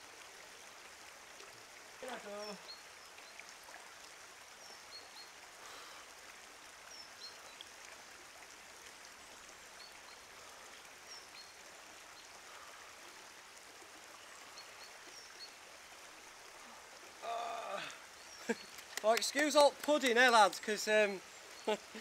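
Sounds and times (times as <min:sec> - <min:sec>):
soft wash of running water: 0:00.0 - 0:22.0.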